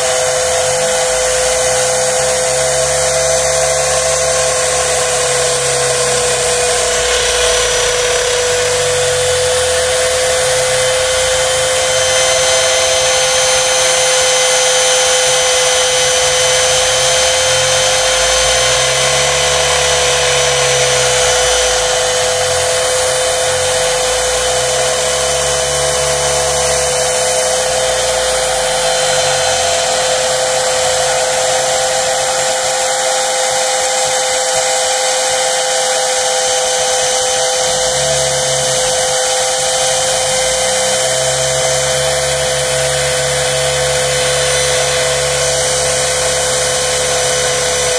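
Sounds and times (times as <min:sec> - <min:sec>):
low motor tones sweeping: 0:00.0 - 0:47.9
router spindle motor whine: 0:00.0 - 0:47.9.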